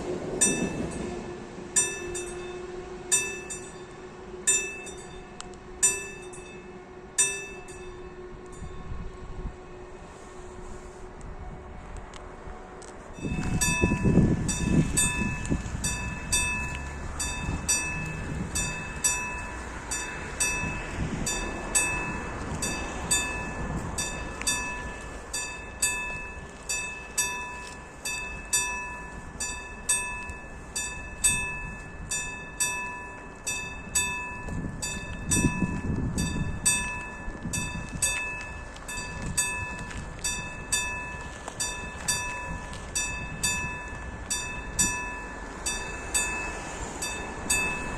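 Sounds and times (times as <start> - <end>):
low train rumble: 0.0 - 47.9
level crossing bell ringing: 1.8 - 8.9, 13.2 - 47.9.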